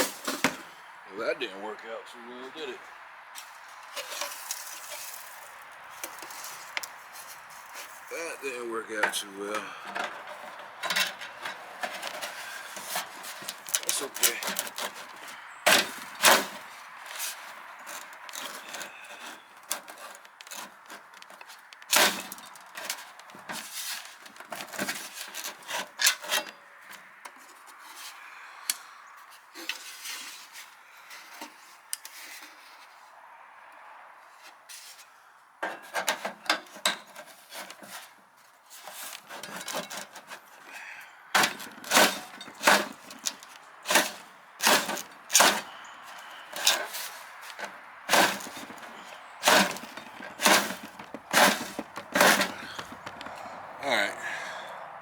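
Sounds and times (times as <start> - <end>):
metal downspout scraping: 0.0 - 1.4, 2.6 - 33.0, 34.4 - 53.6.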